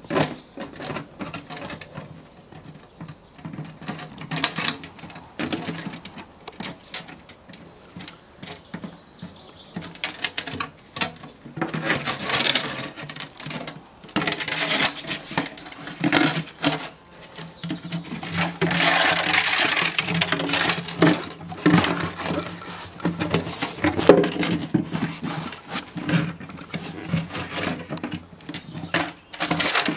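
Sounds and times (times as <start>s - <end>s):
plastic can scraping on stone: 0.0s - 29.9s.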